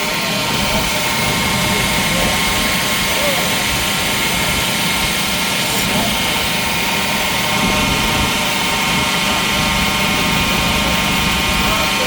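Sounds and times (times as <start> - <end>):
faint whining hum: 0.0 - 12.0
shop machinery roar: 0.0 - 12.0.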